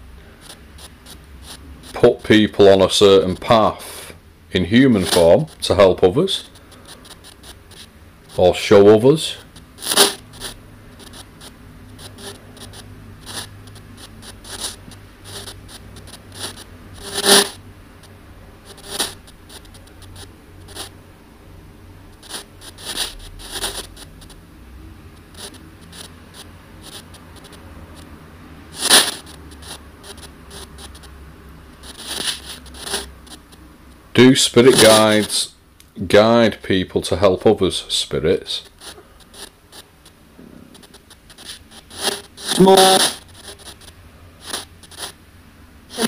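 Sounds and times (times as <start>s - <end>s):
radio static hiss: 0.0s - 46.0s
static crackles: 0.0s - 46.0s.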